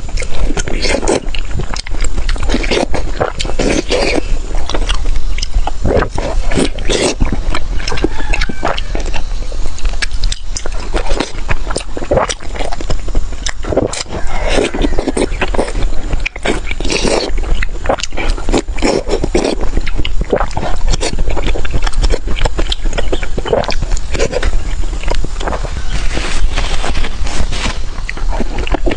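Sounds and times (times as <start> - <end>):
person chewing and biting food: 0.0 - 28.9.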